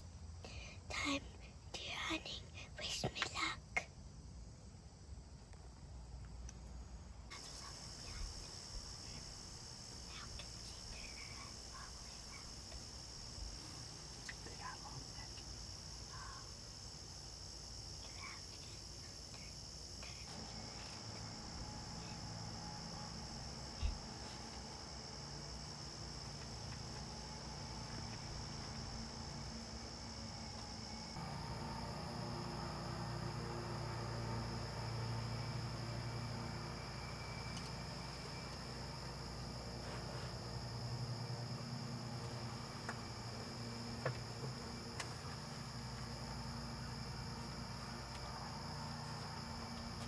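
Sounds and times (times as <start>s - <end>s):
crickets trilling: 0.0s - 50.0s
low background rumble: 0.0s - 50.0s.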